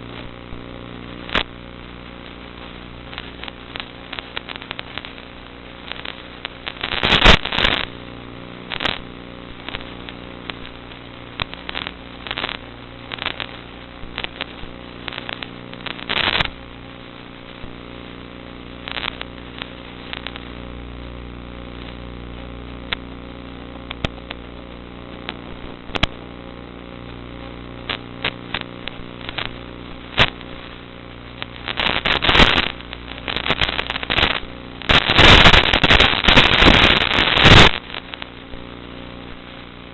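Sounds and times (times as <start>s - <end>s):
crackling pops: 0.0s - 39.9s.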